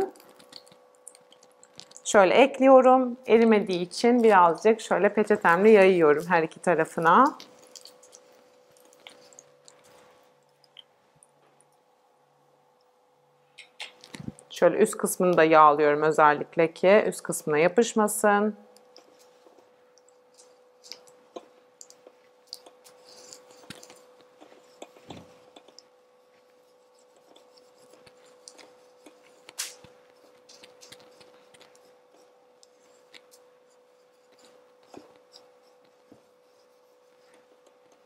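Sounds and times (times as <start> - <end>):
steady faint hum: 0.0 - 38.0.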